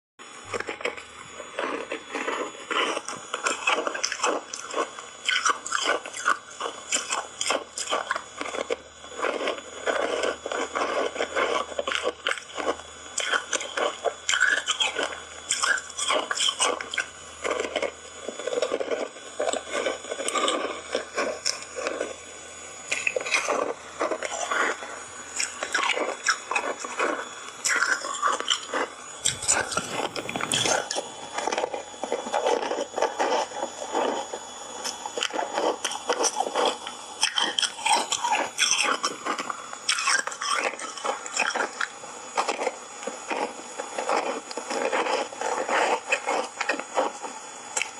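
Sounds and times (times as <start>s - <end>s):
crunching ice bars: 0.4s - 47.9s.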